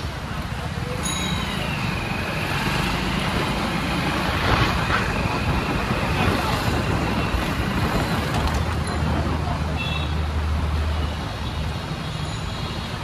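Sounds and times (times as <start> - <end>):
vehicles passing with road noise: 0.0 - 13.0.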